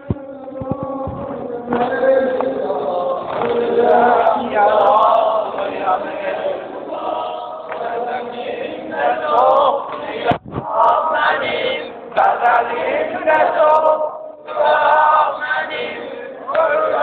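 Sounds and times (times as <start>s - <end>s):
men chanting in unison: 0.2s - 17.0s.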